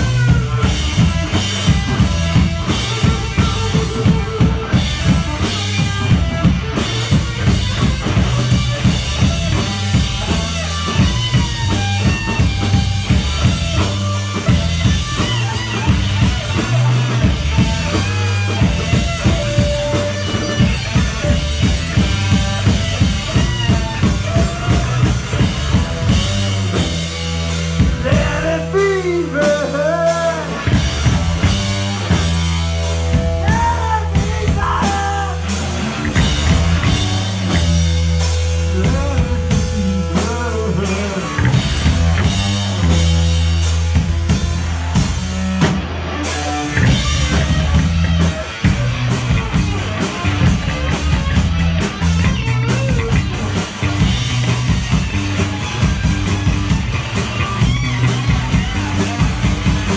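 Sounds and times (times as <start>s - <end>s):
busy drumming: 0.0s - 59.9s
electric guitar bending notes: 0.0s - 59.9s
live rock band playing: 0.0s - 59.9s
steady bass: 0.0s - 59.9s.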